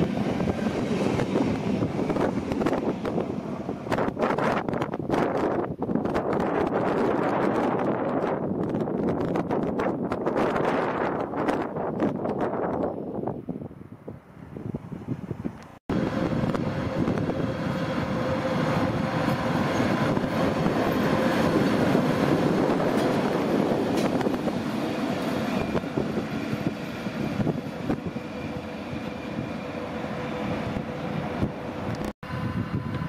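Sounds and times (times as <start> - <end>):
locomotive humming: 0.0 - 9.8, 11.0 - 33.0
locomotive wheels rumbling on rails: 0.0 - 13.5, 14.9 - 33.0.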